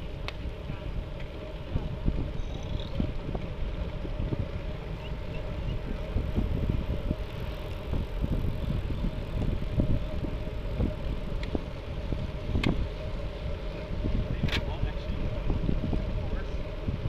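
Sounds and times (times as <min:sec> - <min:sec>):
bicycle road noise: 0:00.0 - 0:17.0
gusty wind noise: 0:00.0 - 0:17.0.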